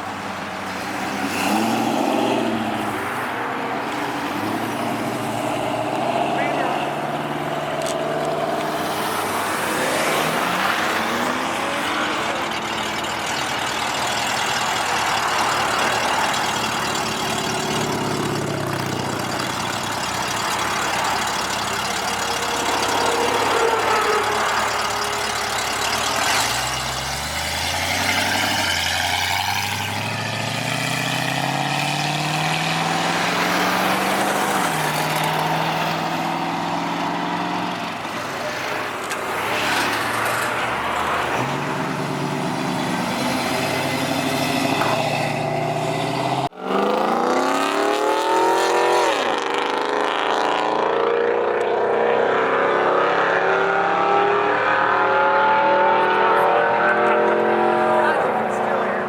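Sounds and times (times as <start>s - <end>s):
car engines accelerating hard: 0.0s - 59.0s
loud engine revving: 0.6s - 59.0s.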